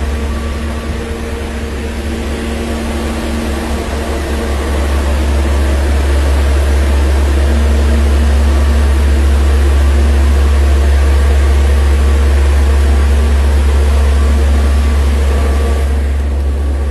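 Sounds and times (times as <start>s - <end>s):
faint steady tones: 0.0s - 16.9s
refrigeration unit humming: 0.0s - 16.9s.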